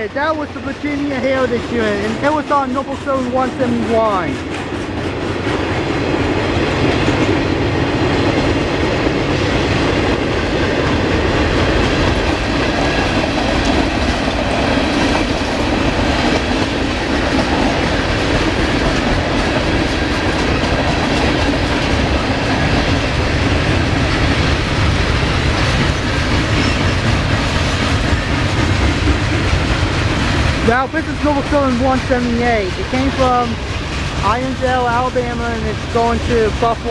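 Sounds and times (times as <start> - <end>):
train wheels on rails: 0.0 - 36.9.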